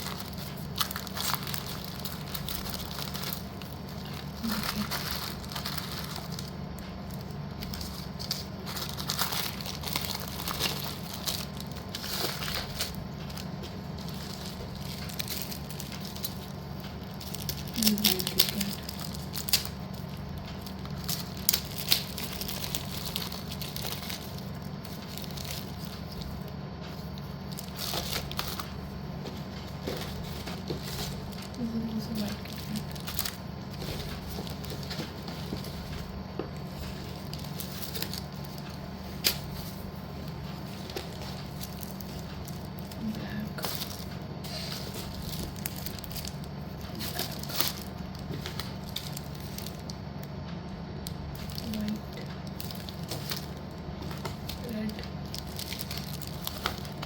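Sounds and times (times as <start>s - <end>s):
plastic packaging crinkling: 0.0s - 57.0s
steady low hum: 0.0s - 57.0s.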